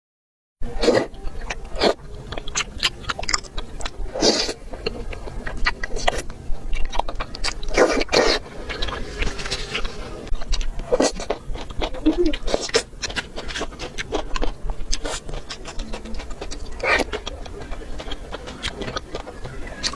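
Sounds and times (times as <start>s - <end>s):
wet chewing: 0.7s - 19.9s
crunching bites: 1.0s - 19.9s.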